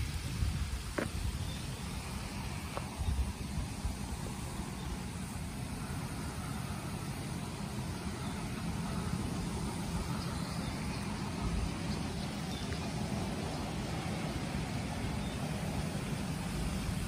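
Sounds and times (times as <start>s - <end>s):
rain falling on a pond: 0.0s - 17.0s.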